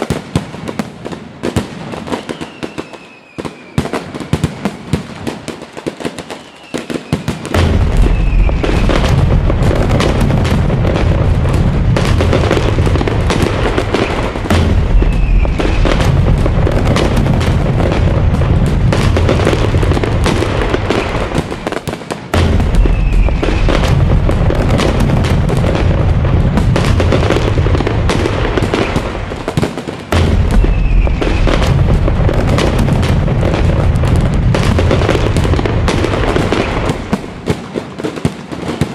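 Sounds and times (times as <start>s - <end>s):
fireworks booming bursts: 0.0s - 38.9s
fireworks crackling pops: 0.0s - 38.9s.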